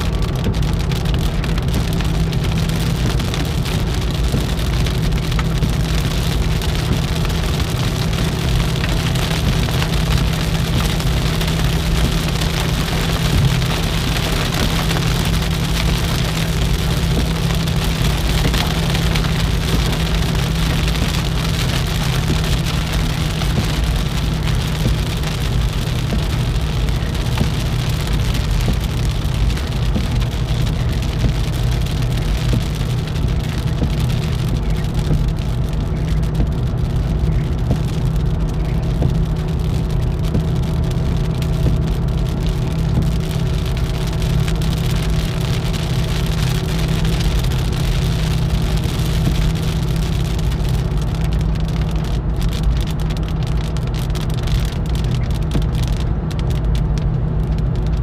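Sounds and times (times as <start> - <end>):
car road and engine drone: 0.0 - 58.0
rain hitting windshield: 0.0 - 58.0.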